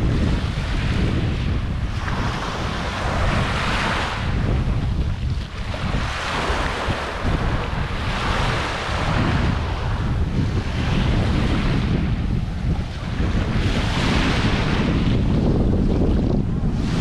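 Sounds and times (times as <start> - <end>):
small waves washing on beach: 0.0 - 17.0
wind buffeting microphone: 0.0 - 17.0.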